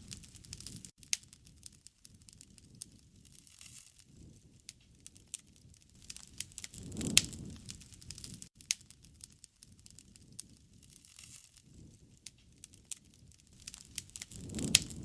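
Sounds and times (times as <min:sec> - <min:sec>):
low rush of flame: 0:00.0 - 0:15.0
wood fire crackling: 0:00.0 - 0:15.0.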